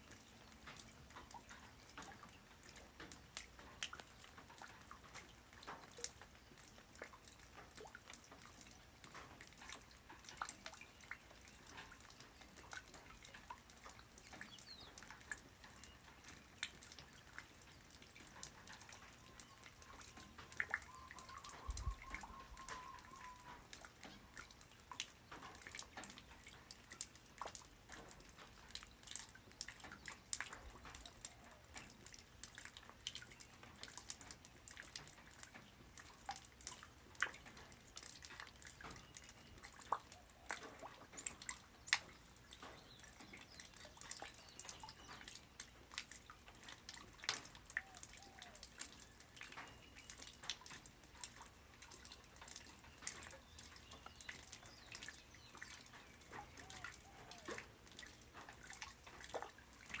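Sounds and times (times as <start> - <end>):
light rain dripping: 0.0 - 60.0.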